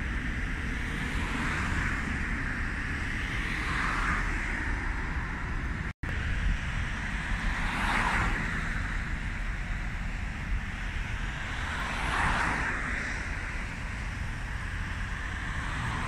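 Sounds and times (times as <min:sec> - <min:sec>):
low traffic rumble: 0:00.0 - 0:16.0
vehicles swishing past: 0:00.0 - 0:16.0.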